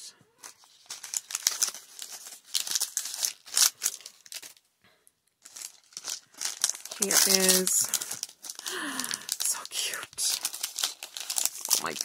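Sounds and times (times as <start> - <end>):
foil wrapper crinkling: 0.4 - 4.6, 5.4 - 12.0.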